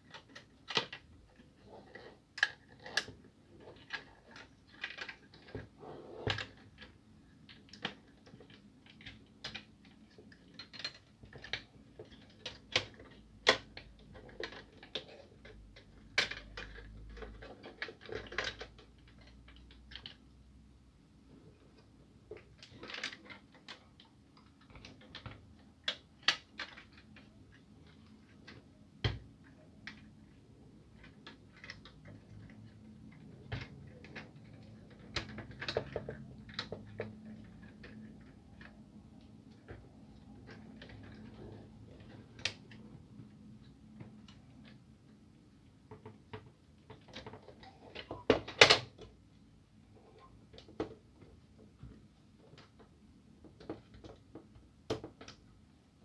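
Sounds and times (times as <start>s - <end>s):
plastic parts clicking and knocking: 0.0s - 56.0s.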